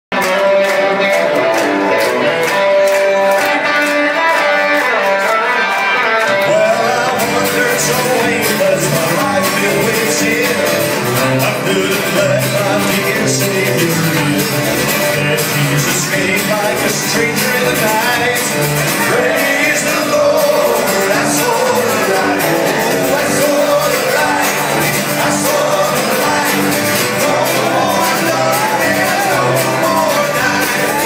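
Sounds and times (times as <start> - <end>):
live band playing guitar song: 0.1 - 31.0
person singing: 2.2 - 31.0.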